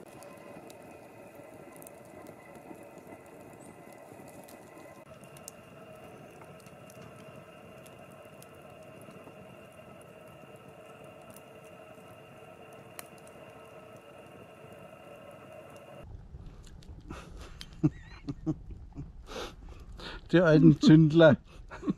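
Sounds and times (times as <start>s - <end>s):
low background hum: 0.0s - 21.9s
wood fire crackling: 0.0s - 21.9s.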